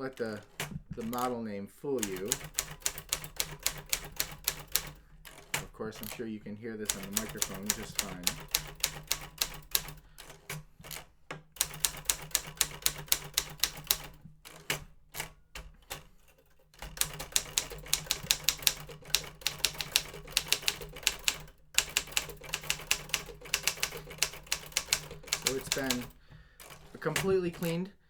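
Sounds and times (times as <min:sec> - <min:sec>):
typewriter keystrokes: 0:00.0 - 0:27.9.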